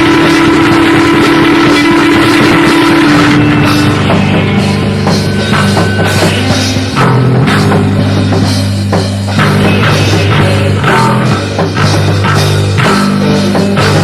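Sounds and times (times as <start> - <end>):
bass guitar notes: 0.0 - 14.0
drum kit beating: 0.0 - 14.0
electric guitar notes: 0.0 - 14.0.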